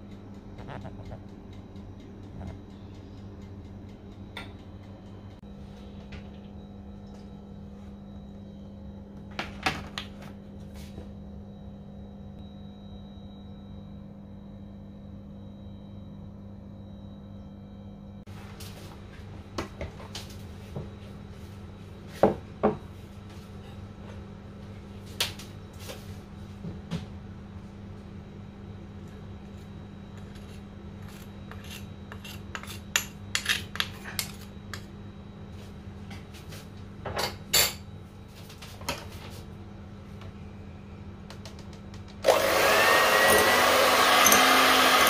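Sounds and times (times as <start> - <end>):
steady low hum: 0.0 - 42.3.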